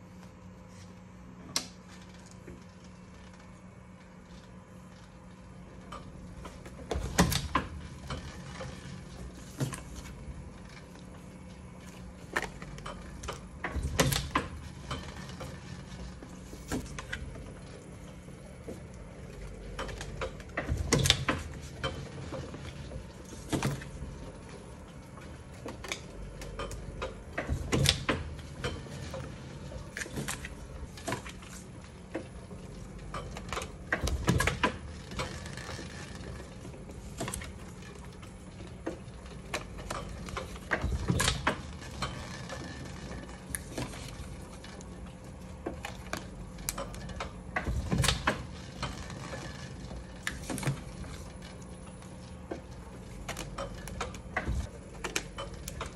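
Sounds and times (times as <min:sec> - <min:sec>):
printing press hum: 0:00.0 - 0:55.9.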